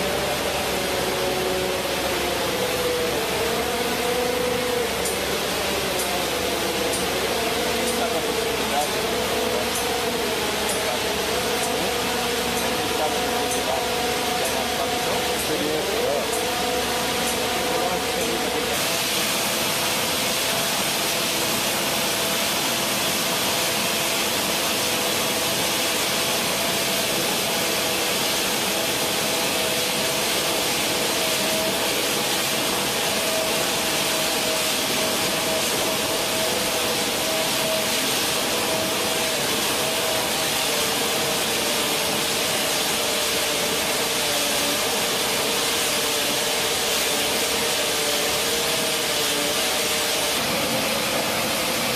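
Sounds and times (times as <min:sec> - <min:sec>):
screw unloader running: 0:00.0 - 0:51.9.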